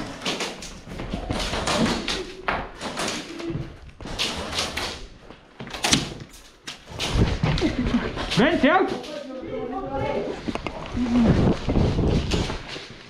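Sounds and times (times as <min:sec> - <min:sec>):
thumps and rustling: 0:00.0 - 0:09.0, 0:10.4 - 0:13.0.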